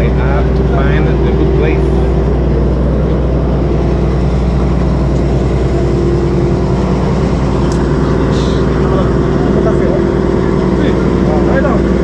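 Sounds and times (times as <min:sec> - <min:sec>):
large engine humming: 0:00.0 - 0:12.0.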